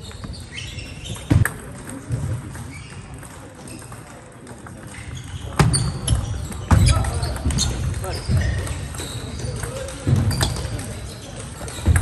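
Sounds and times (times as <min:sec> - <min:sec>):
background voices murmuring: 0:00.0 - 0:12.0.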